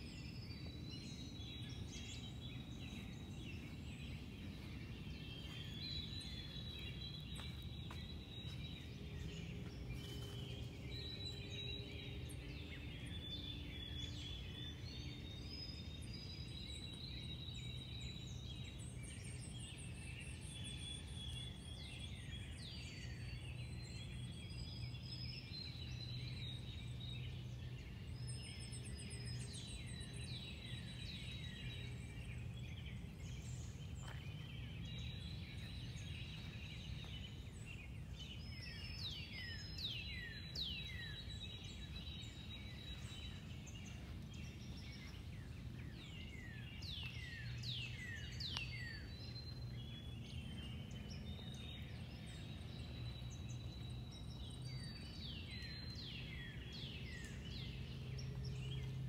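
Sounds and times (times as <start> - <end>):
low background hum: 0.0 - 59.0
songbirds chirping: 0.0 - 59.0.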